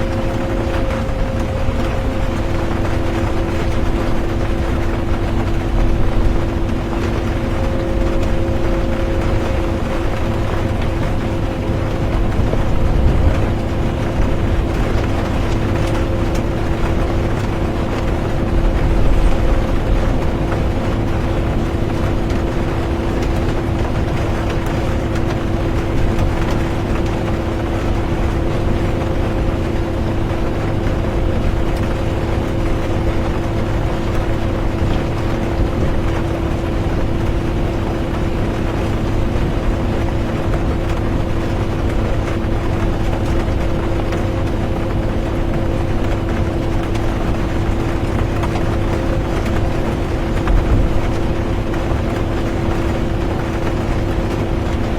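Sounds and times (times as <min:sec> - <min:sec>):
bus engine and road rumble: 0:00.0 - 0:54.9
droning hum: 0:00.0 - 0:54.9.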